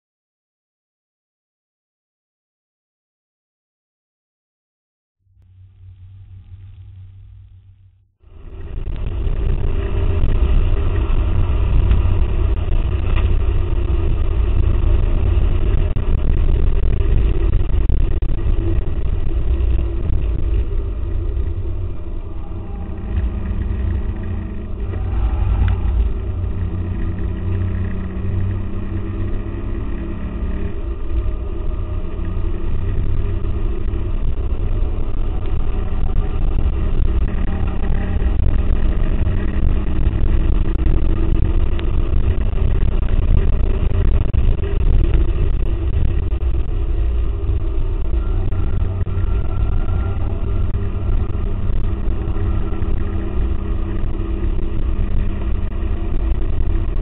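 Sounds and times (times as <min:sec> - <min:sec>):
road and wind noise: 0:05.3 - 0:57.0
car engine under load: 0:05.4 - 0:57.0.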